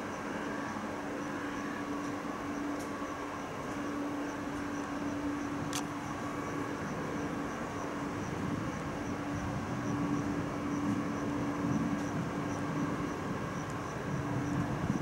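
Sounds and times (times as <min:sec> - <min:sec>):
locomotive hum: 0:00.0 - 0:15.0
wheels rumbling on rails: 0:00.0 - 0:15.0.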